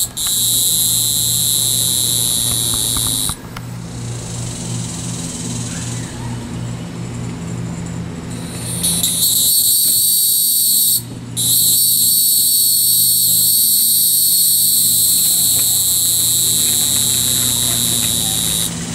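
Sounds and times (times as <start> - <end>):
cicada buzzing: 0.0 - 18.9.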